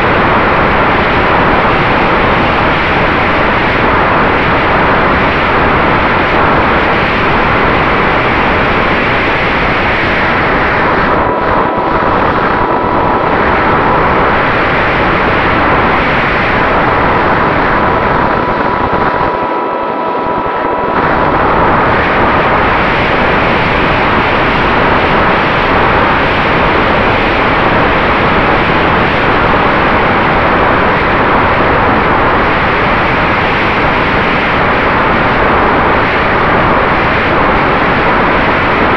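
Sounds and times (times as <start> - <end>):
wind and propeller noise: 0.0 - 38.9.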